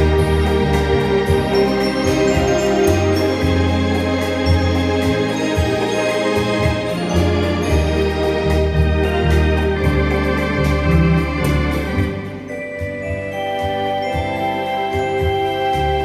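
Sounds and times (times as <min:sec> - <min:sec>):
organ music: 0:00.0 - 0:16.0.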